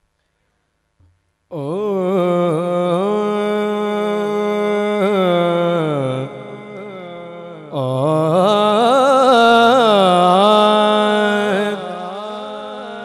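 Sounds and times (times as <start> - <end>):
man singing ornamented phrase: 1.5 - 13.0.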